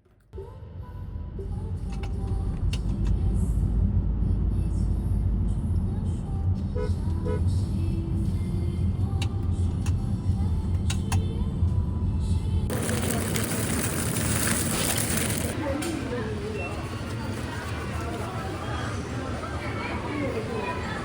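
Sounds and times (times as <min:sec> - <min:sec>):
car rumbling in motion: 0:00.3 - 0:21.0.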